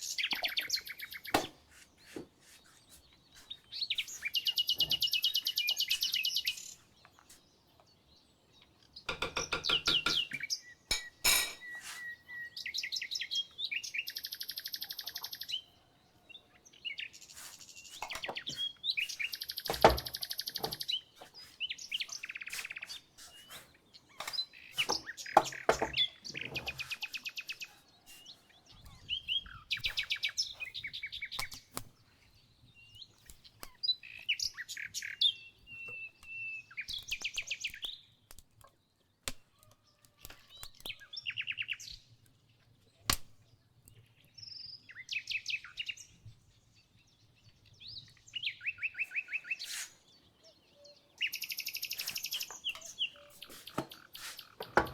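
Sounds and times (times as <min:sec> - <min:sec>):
birds chirping and singing: 0:00.0 - 0:54.9.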